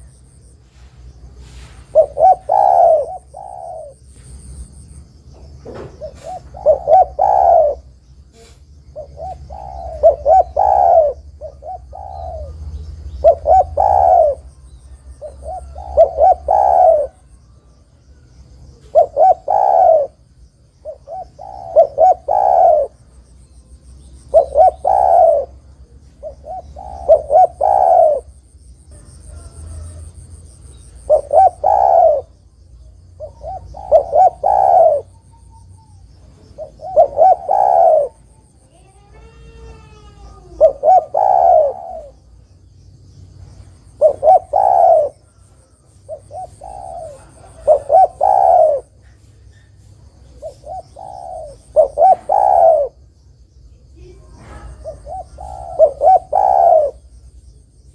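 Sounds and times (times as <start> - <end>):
dove cooing: 1.3 - 4.6, 5.6 - 42.5, 43.8 - 53.0, 53.9 - 57.3.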